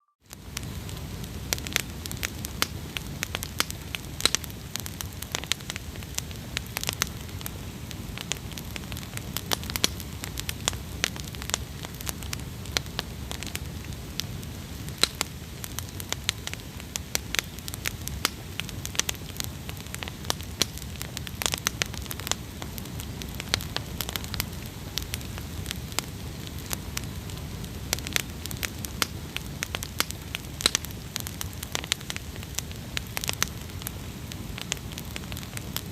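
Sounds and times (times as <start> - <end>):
fire crackles and pops: 0.2 - 35.9
campfire flames rumbling: 0.3 - 35.9.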